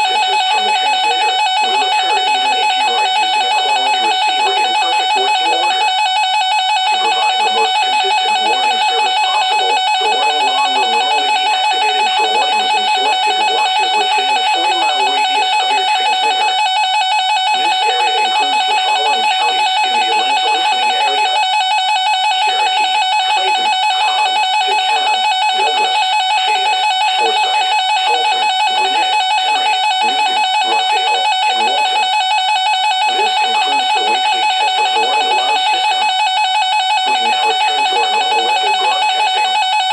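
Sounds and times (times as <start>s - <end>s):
steady high tone: 0.0s - 39.9s.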